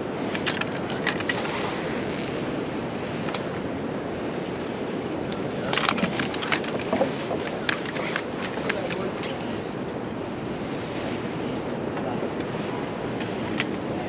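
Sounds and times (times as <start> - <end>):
sea: 0.0 - 14.0
strong wind: 0.0 - 14.0.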